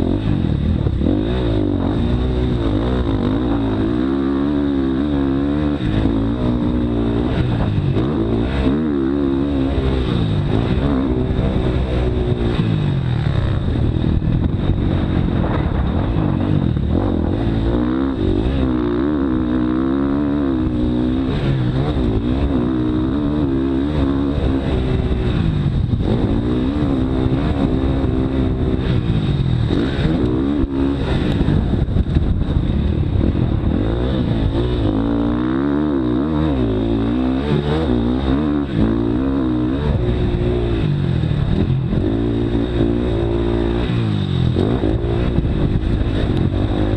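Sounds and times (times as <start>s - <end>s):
dirt bike engine revving hard: 0.0s - 46.9s.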